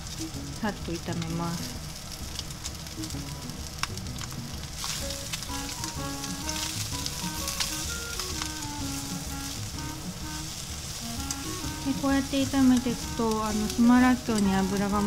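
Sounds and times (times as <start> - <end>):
food sizzling in a frying pan: 0.0 - 15.0
chopsticks clicking against pan: 2.1 - 9.8, 10.5 - 15.0.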